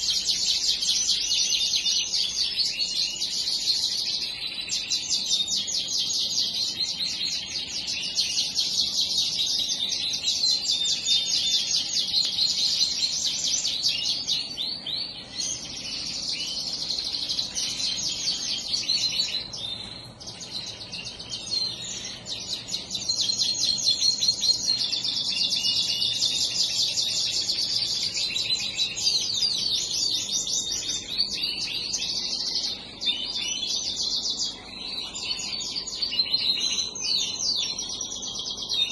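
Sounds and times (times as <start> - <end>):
cage birds chirping and singing: 0.0 - 38.9.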